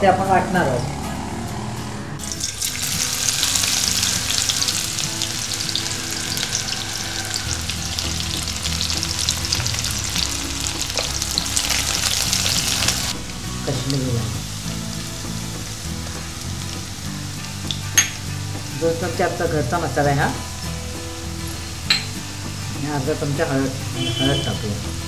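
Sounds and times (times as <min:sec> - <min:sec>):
onion sizzling in hot oil: 0:02.2 - 0:25.0.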